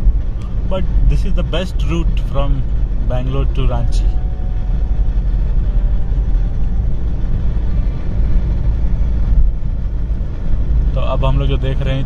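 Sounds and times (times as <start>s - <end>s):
engine and tyre rumble in car: 0.0s - 12.0s.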